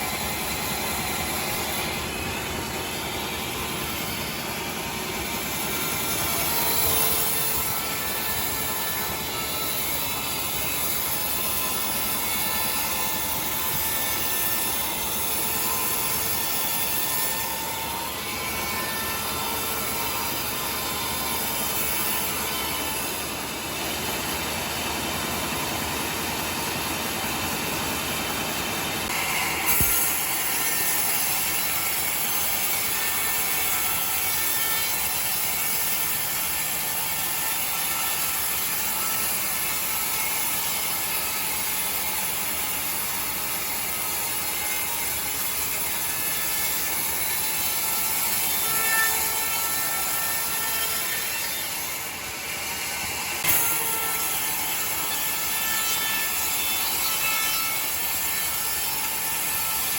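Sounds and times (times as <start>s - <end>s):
sawmill saw cutting timber: 0.0s - 59.9s.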